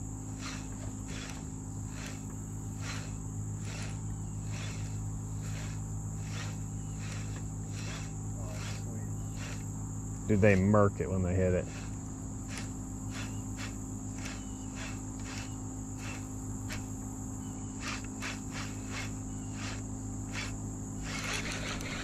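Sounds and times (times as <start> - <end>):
insects chirping: 0.0 - 22.0
steady high buzz: 0.0 - 22.0
steady low hum: 0.0 - 22.0.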